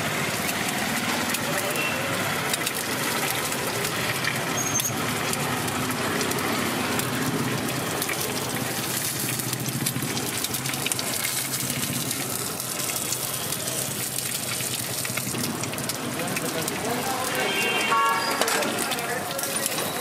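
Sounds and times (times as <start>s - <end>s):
eggs sizzling on griddle: 0.0s - 20.0s.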